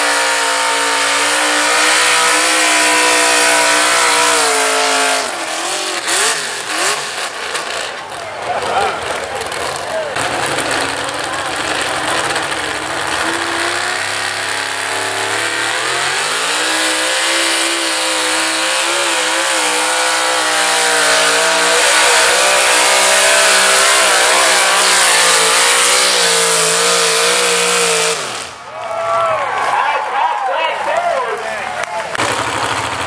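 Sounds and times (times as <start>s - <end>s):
truck engine at full throttle: 0.0s - 28.8s, 31.6s - 33.0s.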